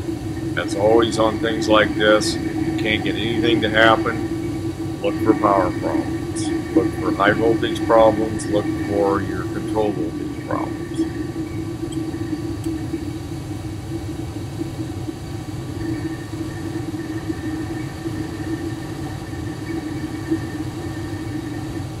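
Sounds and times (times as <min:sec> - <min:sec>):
constant low hum: 0:00.0 - 0:22.0
gas furnace flames rumbling: 0:00.0 - 0:22.0.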